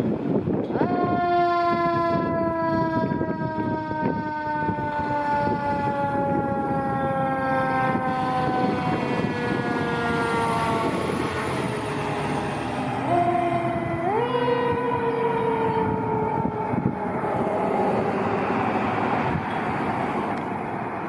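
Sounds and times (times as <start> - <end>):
fire engine rumbling: 0.0 - 21.0
fire engine siren wailing: 0.0 - 21.0.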